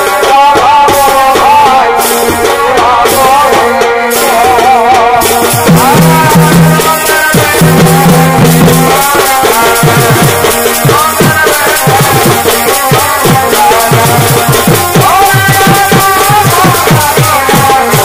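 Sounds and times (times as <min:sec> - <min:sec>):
rattling percussion: 0:00.0 - 0:18.0
sliding drum strokes: 0:00.0 - 0:18.0.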